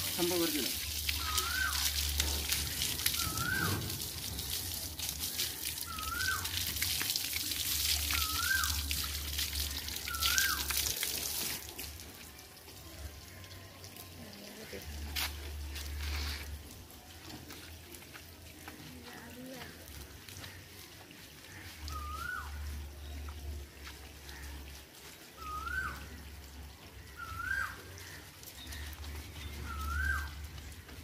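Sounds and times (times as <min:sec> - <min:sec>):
hose water splashing: 0:00.0 - 0:31.0.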